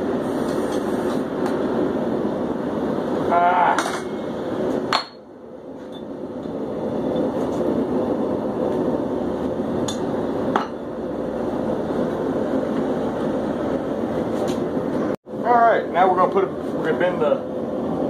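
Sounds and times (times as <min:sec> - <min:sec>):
forge burner rushing: 0:00.0 - 0:18.0.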